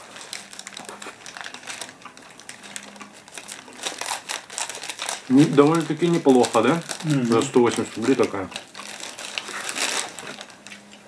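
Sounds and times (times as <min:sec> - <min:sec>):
paper wrapper crinkling: 0:00.0 - 0:11.0
people biting and chewing: 0:00.0 - 0:11.0.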